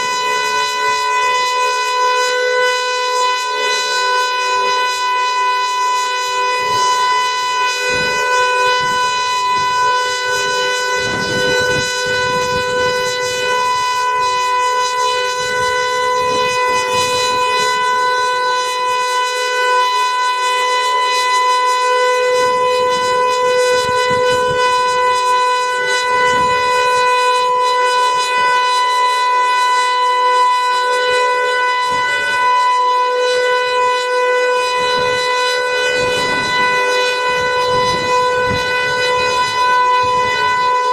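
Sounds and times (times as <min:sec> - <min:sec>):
warning siren steady pitch: 0:00.0 - 0:40.9.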